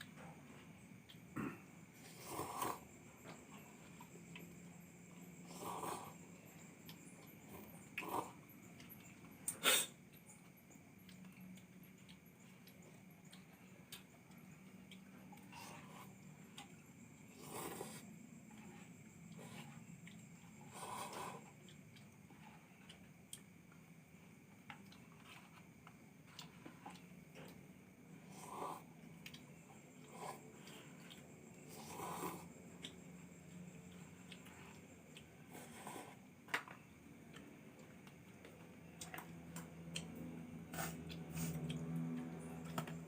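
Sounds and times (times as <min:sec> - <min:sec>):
faint clicks and ticks: 0:02.9 - 0:43.0.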